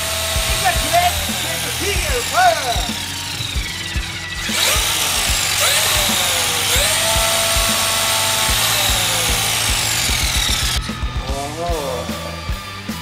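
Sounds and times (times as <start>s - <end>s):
electric motor whining: 0.0s - 11.2s
background music with beat: 0.0s - 13.0s.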